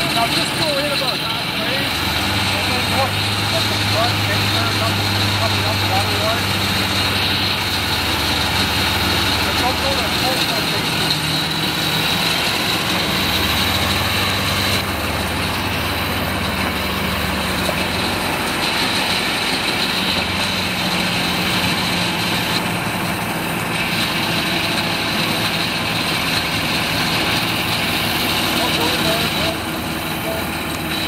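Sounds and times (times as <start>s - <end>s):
car engine running at low revs: 0.0s - 31.0s.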